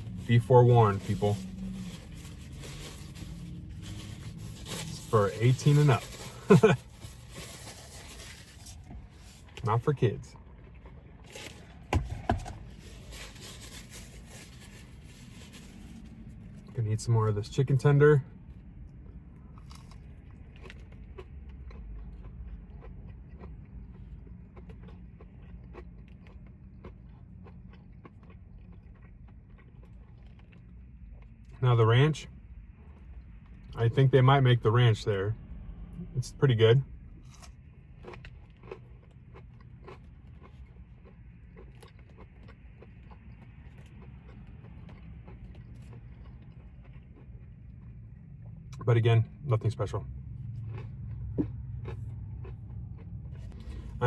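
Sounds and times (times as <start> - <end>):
crisp chewing and biting: 0.0 - 16.8, 18.3 - 31.6, 37.0 - 48.8, 50.0 - 54.0.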